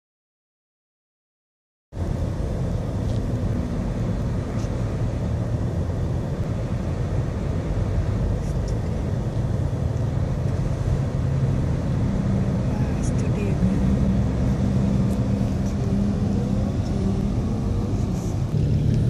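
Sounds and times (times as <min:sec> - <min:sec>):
car engine rumble: 0:01.9 - 0:19.0.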